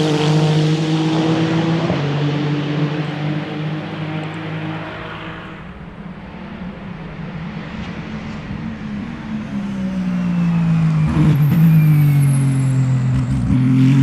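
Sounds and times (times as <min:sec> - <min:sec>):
race car engine: 0:00.0 - 0:14.0.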